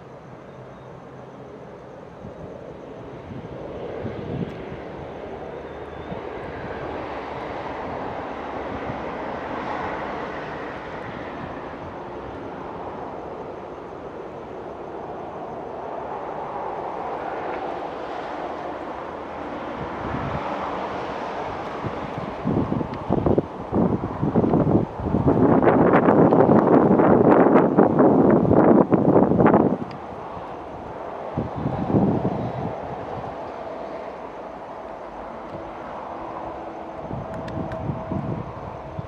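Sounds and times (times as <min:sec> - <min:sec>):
train wheels rumbling on track: 0:01.6 - 0:39.0.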